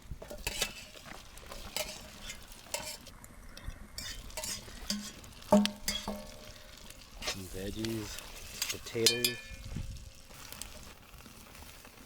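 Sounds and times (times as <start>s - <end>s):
butter sizzling in a frying pan: 0.0s - 3.1s, 4.0s - 12.0s
utensil scraping in a pan: 0.2s - 3.1s, 4.0s - 12.0s.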